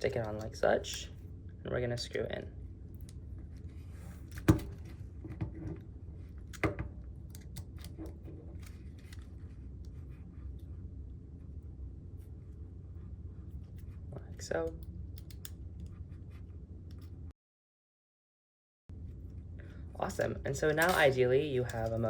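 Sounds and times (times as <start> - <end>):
steady low hum: 0.0 - 17.3, 18.9 - 22.0.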